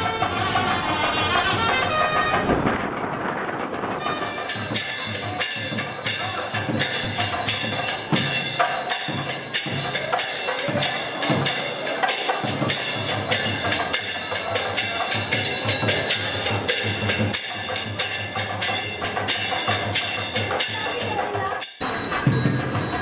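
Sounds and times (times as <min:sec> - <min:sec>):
drums in busy rhythm: 0:00.0 - 0:23.0
held melody instrument: 0:00.0 - 0:23.0.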